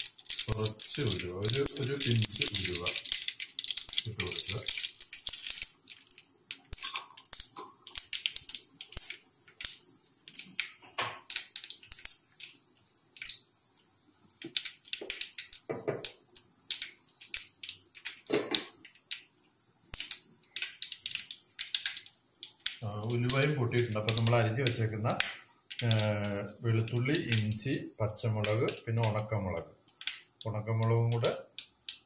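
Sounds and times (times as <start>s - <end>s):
seeds popping in hot oil: 0.0s - 32.0s.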